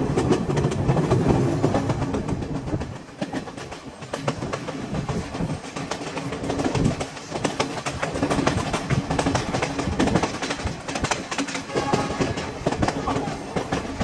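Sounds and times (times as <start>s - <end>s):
train wheel and track clatter: 0.0s - 14.0s.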